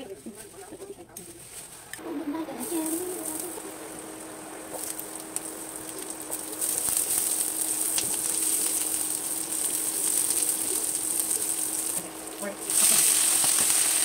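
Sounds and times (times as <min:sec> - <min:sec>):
faint steady hum: 0:00.0 - 0:14.0
garlic sizzling in hot oil: 0:02.0 - 0:14.0.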